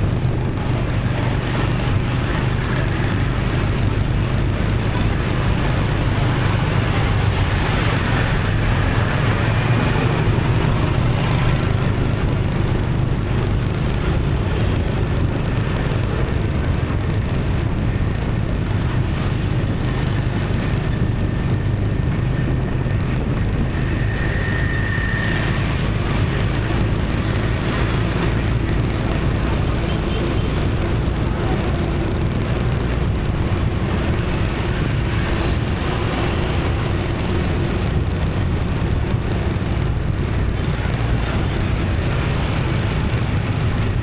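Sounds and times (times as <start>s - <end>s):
road traffic engines and tyres: 0.0s - 44.0s.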